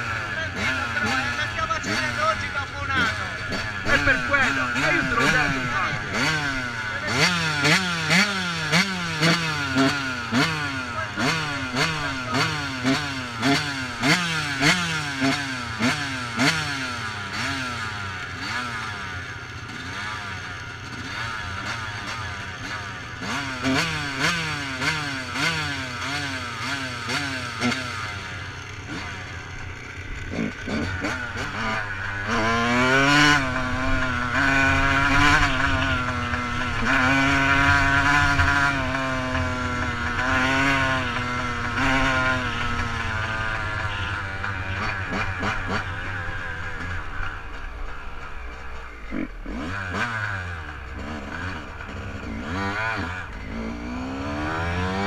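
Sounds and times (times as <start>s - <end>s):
two-stroke motocross engine revving: 0.0s - 55.0s.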